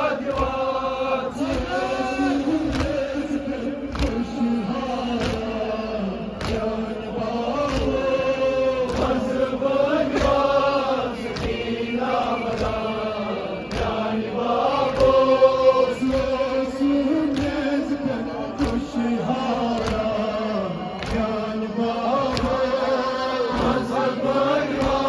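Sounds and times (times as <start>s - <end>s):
men chanting a lament: 0.0s - 25.0s.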